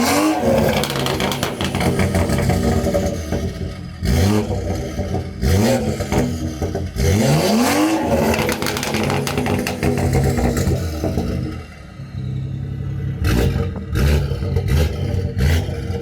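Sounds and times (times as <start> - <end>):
car engine idling: 0.0 - 7.1, 8.0 - 16.0
car engine revving: 0.0 - 16.0.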